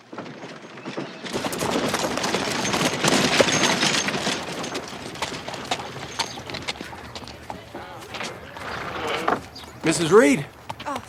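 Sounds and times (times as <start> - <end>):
rapid clatter of small knocks: 0.0 - 10.1.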